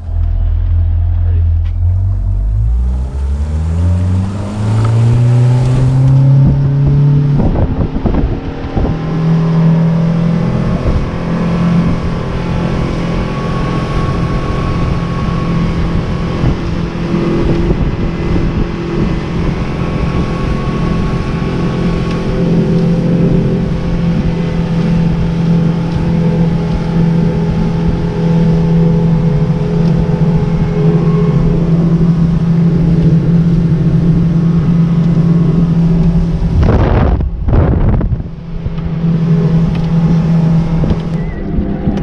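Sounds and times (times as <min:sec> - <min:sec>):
boat motor running: 0:00.0 - 0:42.0.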